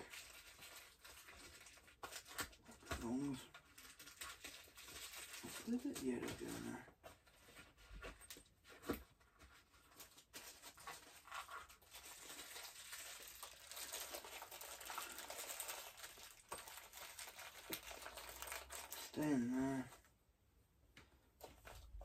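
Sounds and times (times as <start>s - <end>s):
packaging rustling and crinkling: 0.0s - 20.0s.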